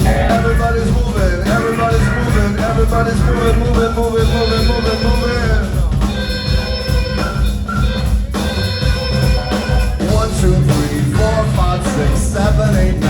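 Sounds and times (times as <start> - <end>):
organ-like keyboard tones: 0.0 - 10.6
bass: 0.0 - 13.0
drums: 0.0 - 13.0.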